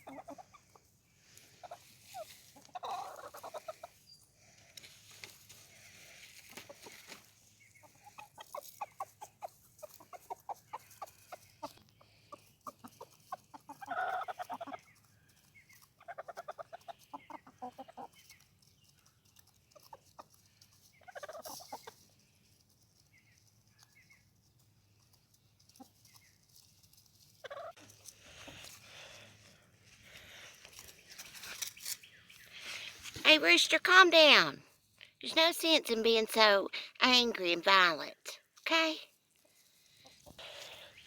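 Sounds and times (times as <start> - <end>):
chickens clucking: 0.0 - 33.2, 34.8 - 41.0.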